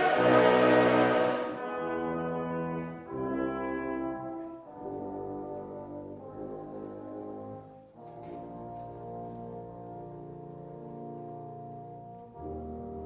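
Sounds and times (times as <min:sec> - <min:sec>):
slow classical music: 0:00.0 - 0:13.0.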